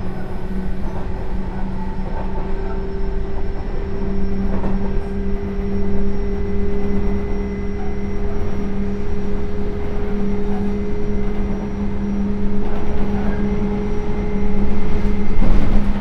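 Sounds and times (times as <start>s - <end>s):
electric train inverter tones: 0.0s - 16.0s
wheels rumbling on rail: 0.0s - 16.0s.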